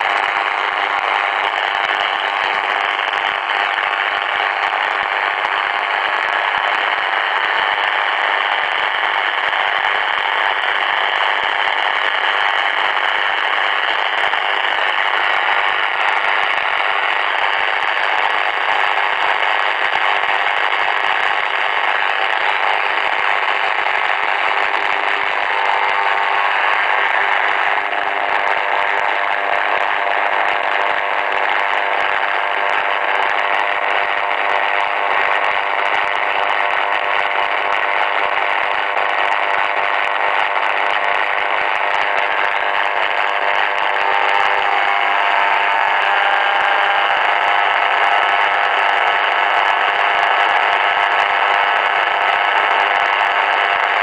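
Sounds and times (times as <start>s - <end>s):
radio interference rasping: 0.0s - 54.0s.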